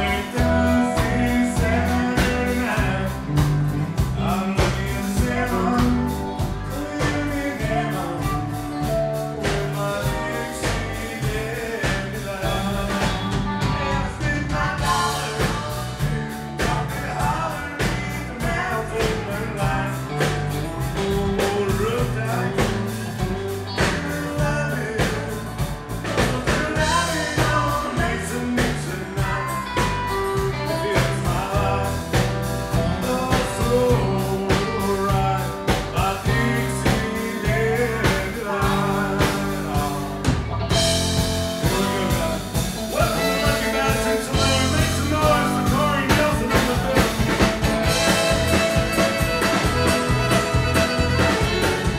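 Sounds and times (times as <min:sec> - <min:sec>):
bass line: 0:00.0 - 0:51.9
country band playing: 0:00.0 - 0:51.9
drum kit beat: 0:00.0 - 0:51.9.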